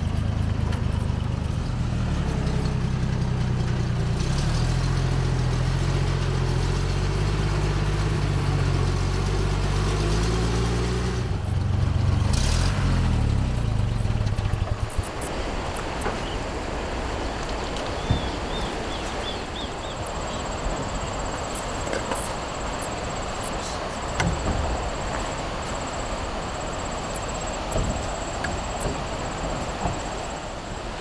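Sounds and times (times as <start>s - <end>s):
truck engine running under load: 0.0s - 31.0s.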